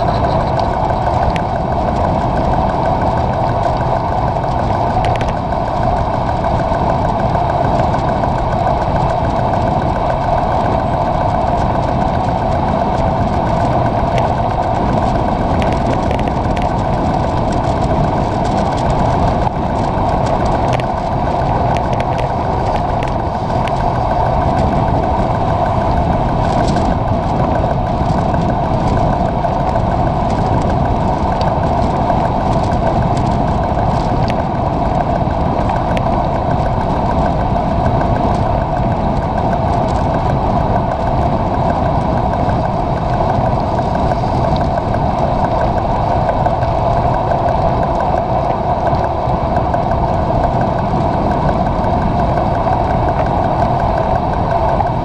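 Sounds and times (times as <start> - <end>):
bike tyres hum on wet asphalt: 0.0 - 55.0
rushing air: 0.0 - 55.0.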